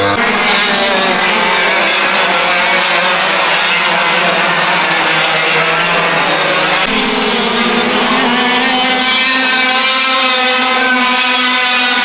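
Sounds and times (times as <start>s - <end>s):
kart engines racing: 0.0s - 12.0s.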